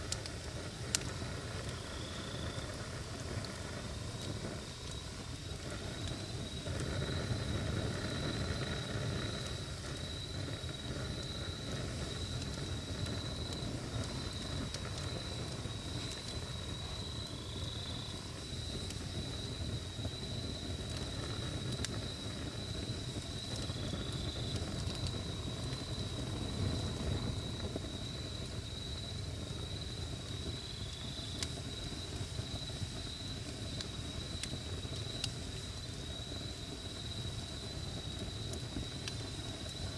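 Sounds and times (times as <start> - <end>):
campfire rumbling and crackling: 0.0 - 39.9.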